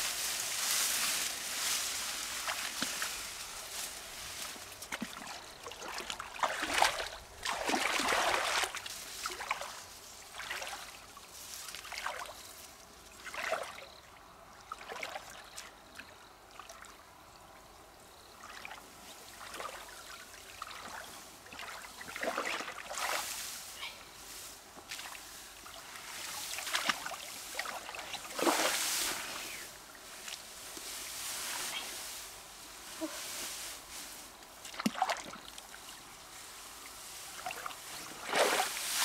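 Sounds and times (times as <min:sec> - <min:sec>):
water splashing and trickling: 0:00.5 - 0:12.4, 0:13.1 - 0:15.7, 0:18.4 - 0:32.2, 0:34.6 - 0:39.0.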